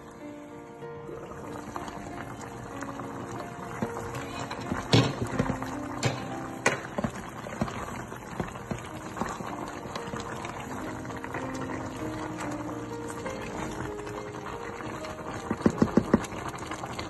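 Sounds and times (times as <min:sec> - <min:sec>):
chicken simmering in sauce: 0:01.1 - 0:17.0.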